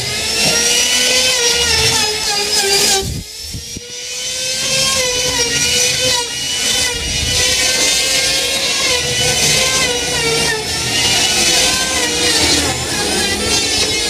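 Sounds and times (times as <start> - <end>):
woodworking machine whine: 0.0 - 14.0.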